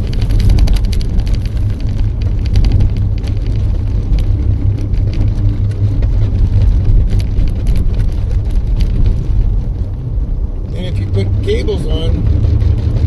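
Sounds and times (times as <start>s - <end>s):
road and tire rumble: 0.0s - 13.0s
tire cables clicking and clattering: 0.0s - 13.0s.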